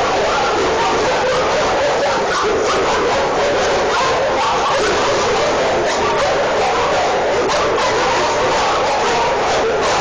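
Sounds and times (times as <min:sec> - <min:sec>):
many dogs barking: 0:00.0 - 0:10.0.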